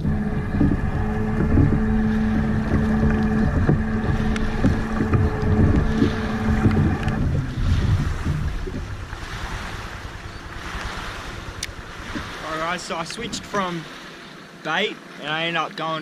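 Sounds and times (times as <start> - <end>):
hull knocking on water: 0.0 - 14.0
boat motor running: 0.0 - 16.0.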